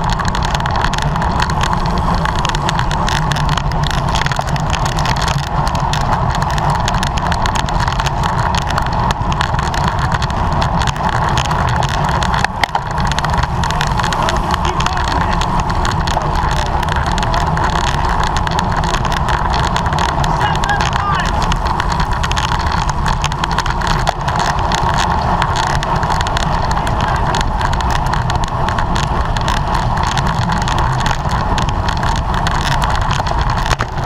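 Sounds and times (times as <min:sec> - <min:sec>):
bicycle road noise: 0:00.0 - 0:34.0
wind buffeting microphone: 0:00.0 - 0:34.0.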